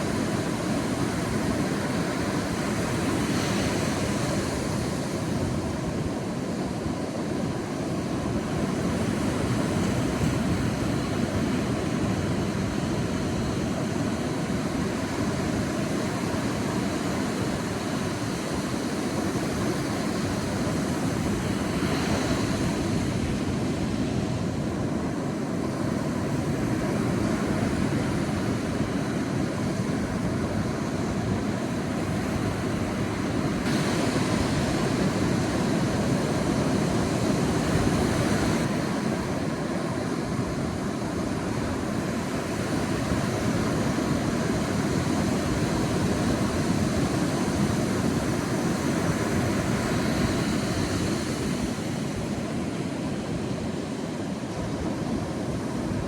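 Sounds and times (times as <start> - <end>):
sea waves surging on a beach: 0.0 - 56.0.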